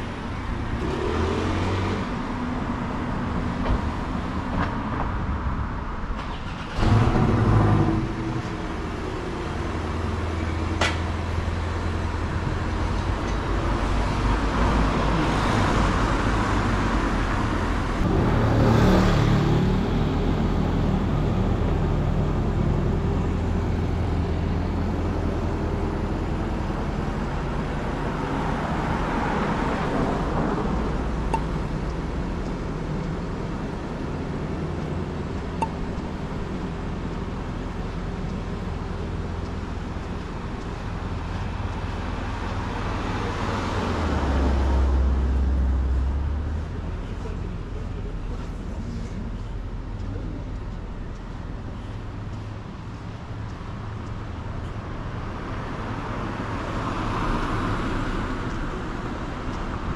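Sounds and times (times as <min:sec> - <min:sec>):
low engine hum: 0:00.0 - 0:59.9
vehicles driving past: 0:00.0 - 0:59.9.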